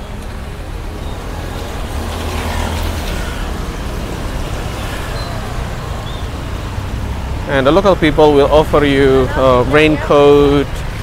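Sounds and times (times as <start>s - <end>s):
motor vehicle running: 0.0s - 11.0s
road noise: 0.0s - 11.0s.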